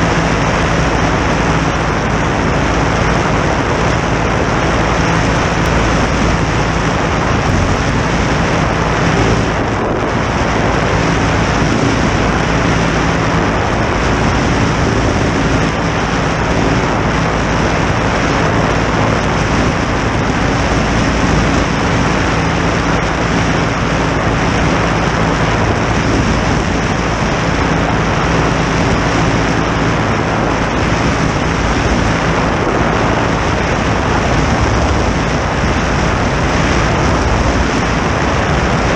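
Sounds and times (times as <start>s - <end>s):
light aircraft engine and propeller: 0.0s - 38.9s
wind rushing: 0.0s - 38.9s.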